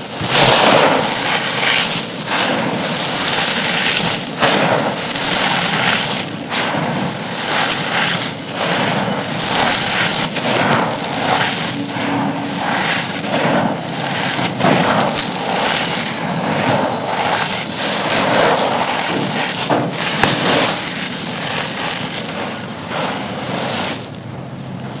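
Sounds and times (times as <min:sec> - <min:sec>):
concrete pieces crunching: 0:00.0 - 0:24.2.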